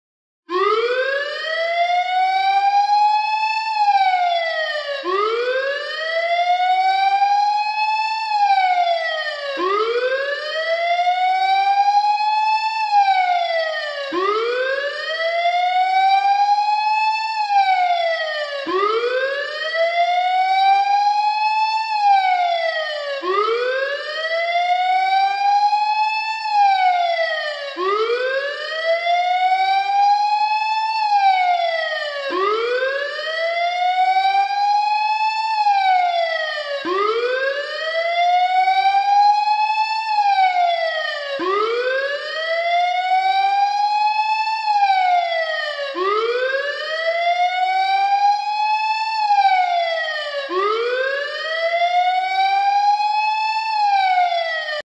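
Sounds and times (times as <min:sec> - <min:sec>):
warning siren wailing: 0:00.5 - 0:54.9.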